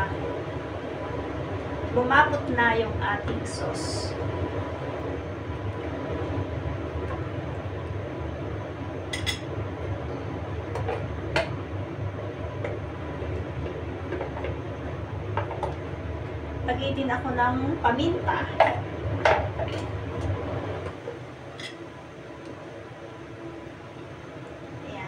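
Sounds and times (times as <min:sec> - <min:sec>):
low rumbling kitchen noise: 0:00.0 - 0:25.0.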